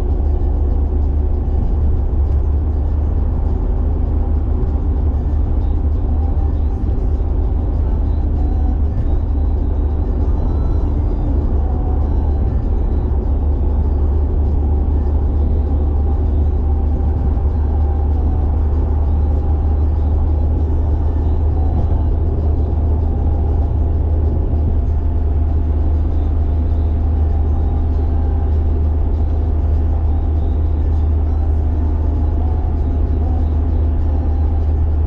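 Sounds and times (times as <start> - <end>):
car engine drone: 0.0 - 35.0
road noise: 0.0 - 35.0.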